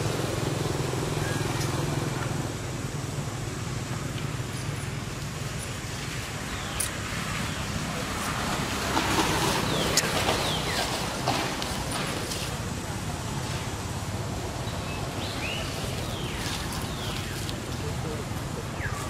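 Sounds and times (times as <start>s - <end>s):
traffic engine hum: 0.0s - 19.0s.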